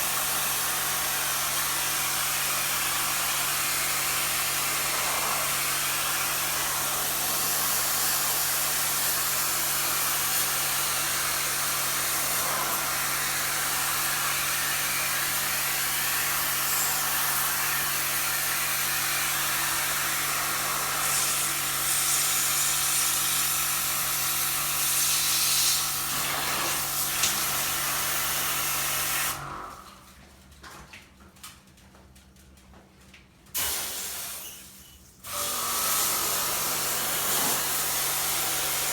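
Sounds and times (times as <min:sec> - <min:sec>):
pressure washer pump humming: 0:00.0 - 0:29.6, 0:35.2 - 0:38.9.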